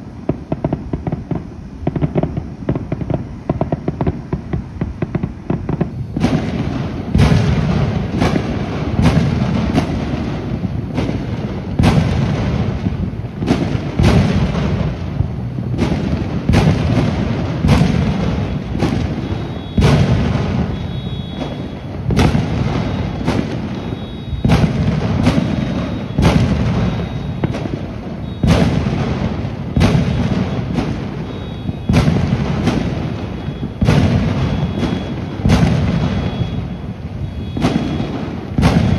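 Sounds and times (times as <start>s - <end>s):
fireworks booming: 0.0s - 38.9s
rumble of distant fireworks: 0.0s - 38.9s.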